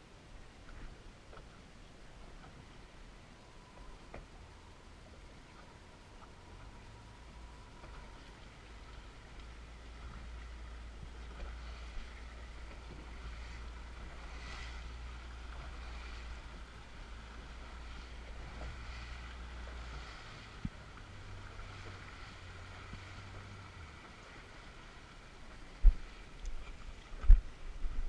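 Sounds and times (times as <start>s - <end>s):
boat engine drone: 0.0s - 28.0s
water washing along hull: 0.0s - 28.0s.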